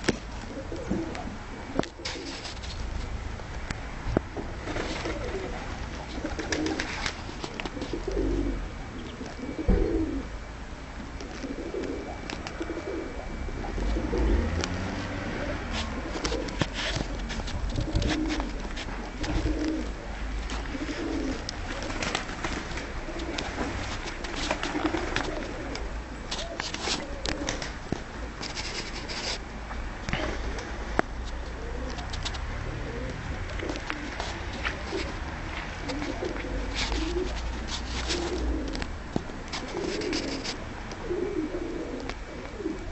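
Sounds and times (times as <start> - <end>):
pigeons cooing: 0.0 - 2.6, 4.5 - 10.4, 11.2 - 29.4, 30.1 - 42.9.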